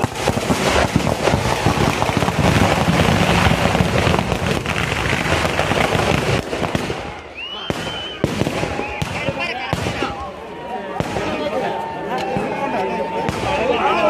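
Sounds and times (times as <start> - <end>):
firecrackers going off: 0.0 - 14.0.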